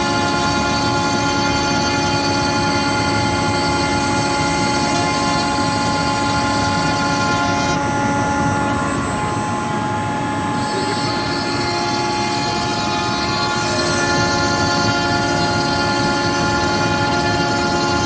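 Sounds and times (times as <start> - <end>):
bit rasping through wood: 0.0 - 7.8, 10.5 - 18.0
router spindle whine: 0.0 - 18.0.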